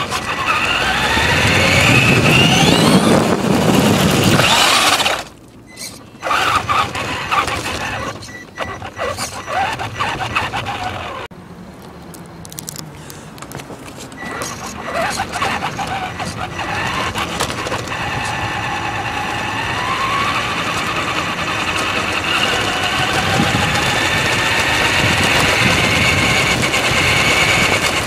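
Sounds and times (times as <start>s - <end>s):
electric motor whining: 0.0s - 11.3s, 14.1s - 28.0s.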